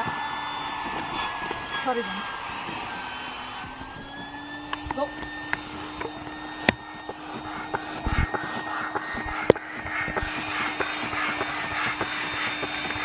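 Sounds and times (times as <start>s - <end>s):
air hissing through hose: 0.0s - 13.0s
electric air pump humming: 0.0s - 13.0s.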